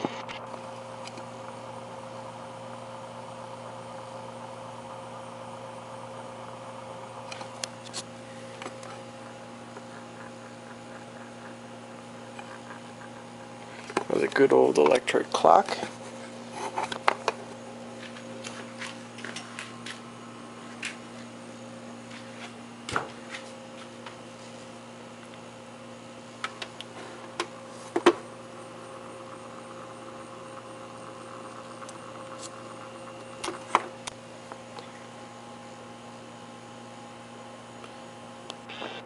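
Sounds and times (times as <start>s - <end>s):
electric clock motor hum: 0.0s - 39.0s.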